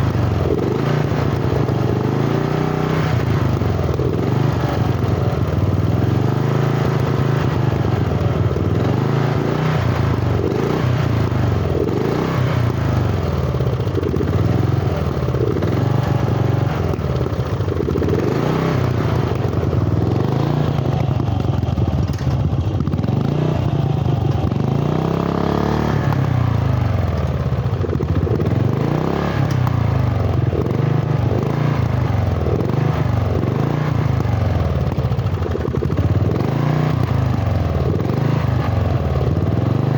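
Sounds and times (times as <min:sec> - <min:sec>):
ride-on mower engine running: 0:00.0 - 0:39.9.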